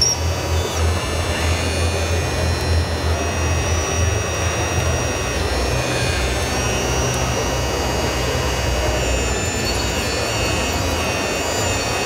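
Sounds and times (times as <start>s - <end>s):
model machine motor whine: 0.0s - 12.0s.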